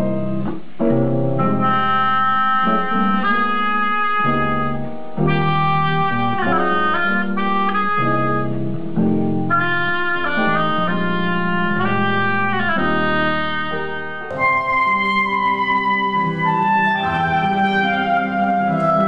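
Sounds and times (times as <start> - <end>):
grand piano chords: 0.0 - 19.0
oboe playing slow melody: 1.4 - 8.6, 9.5 - 19.0.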